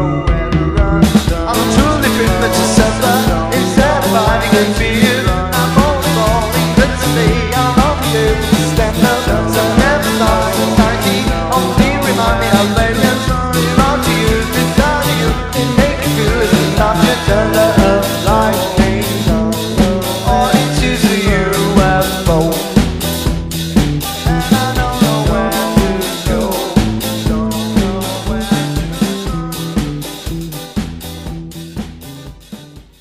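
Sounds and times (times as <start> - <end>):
indie pop-rock song: 0.0 - 32.6
steady drum beat: 0.3 - 33.0.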